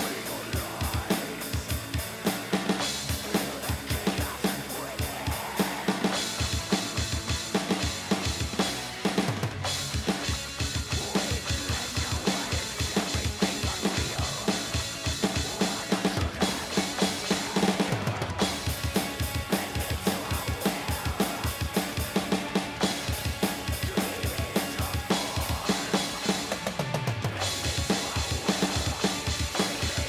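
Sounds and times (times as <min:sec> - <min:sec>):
metal band music: 0:00.0 - 0:30.0.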